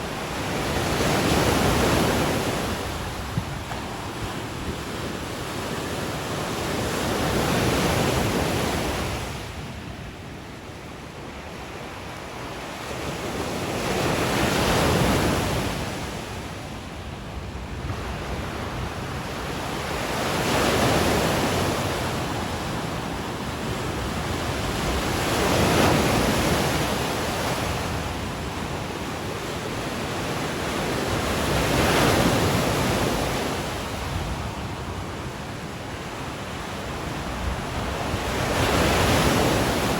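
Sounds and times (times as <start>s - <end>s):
wind on microphone: 0.0s - 10.6s, 11.2s - 39.9s
waves breaking on beach: 0.0s - 39.9s.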